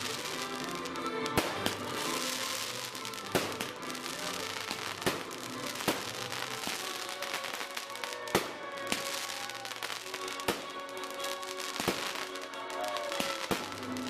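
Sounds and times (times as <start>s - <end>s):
fireworks bangs: 0.0s - 14.0s
music: 0.0s - 14.0s.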